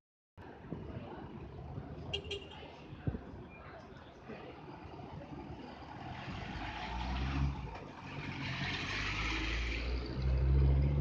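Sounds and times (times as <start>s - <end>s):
street noise: 0.4s - 11.0s.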